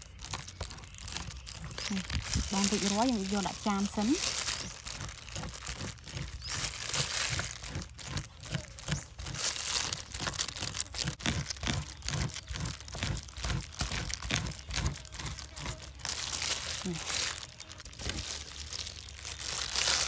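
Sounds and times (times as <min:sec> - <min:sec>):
plastic glove crinkling: 0:00.0 - 0:20.0.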